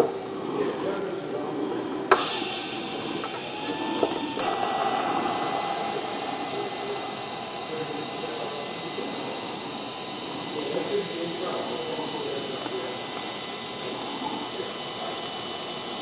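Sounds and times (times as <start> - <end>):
welding arc hissing: 2.1 - 16.0.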